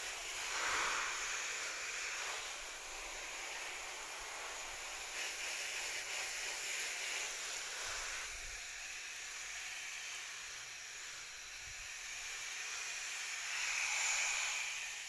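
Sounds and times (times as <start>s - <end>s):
water spraying onto leaves: 0.0s - 15.0s.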